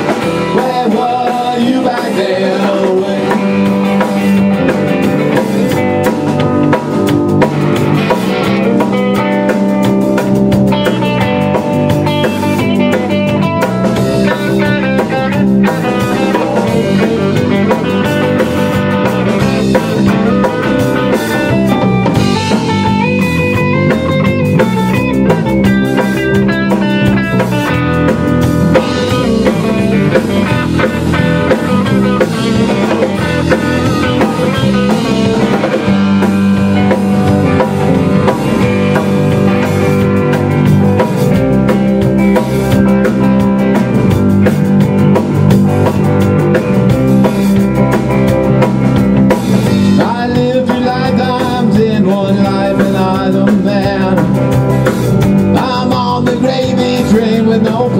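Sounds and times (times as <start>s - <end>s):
drum kit: 0.0s - 57.9s
electric guitar: 0.0s - 57.9s.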